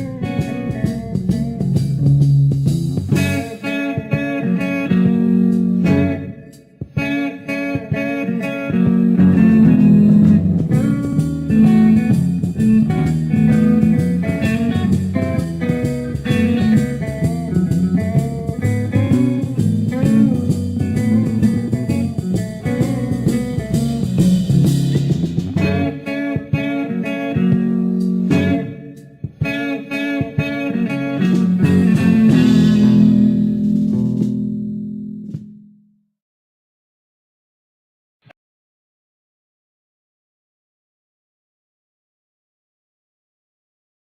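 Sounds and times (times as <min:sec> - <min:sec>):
blues-rock band playing: 0:00.0 - 0:35.4
guitar: 0:00.0 - 0:35.9.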